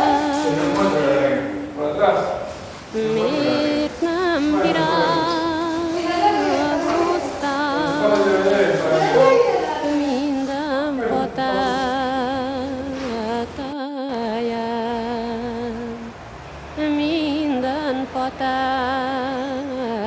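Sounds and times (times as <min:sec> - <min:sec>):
woman singing unaccompanied folk song: 0:00.0 - 0:01.0, 0:02.9 - 0:08.7, 0:09.6 - 0:20.0.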